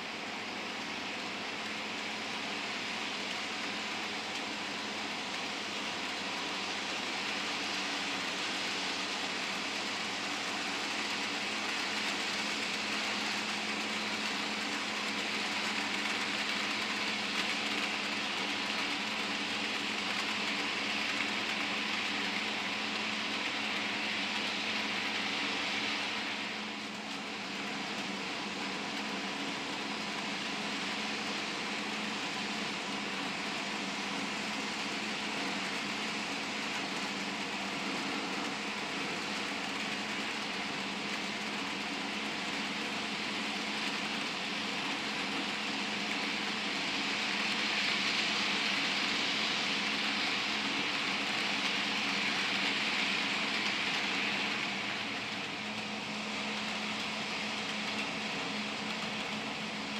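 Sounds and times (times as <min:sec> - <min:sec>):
model train whirring on track: 0:00.0 - 0:59.9.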